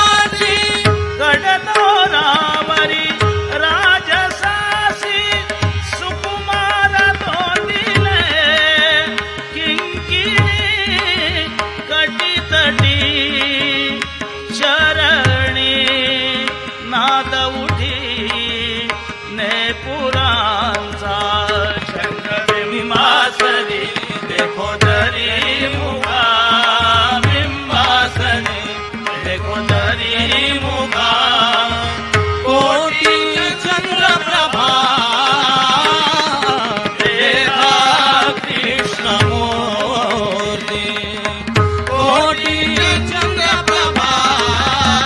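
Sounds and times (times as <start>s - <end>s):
tabla playing a rhythm: 0.0s - 45.0s.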